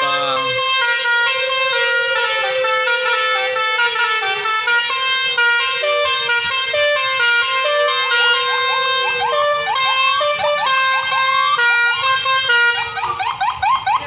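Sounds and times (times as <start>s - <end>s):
musical bus horn melody: 0.0s - 13.8s.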